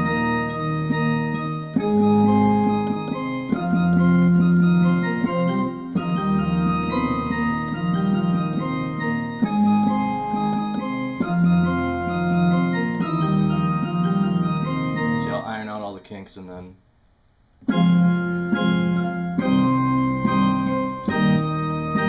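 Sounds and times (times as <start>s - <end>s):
organ chords on electronic keyboard: 0.0s - 15.9s, 17.6s - 22.0s.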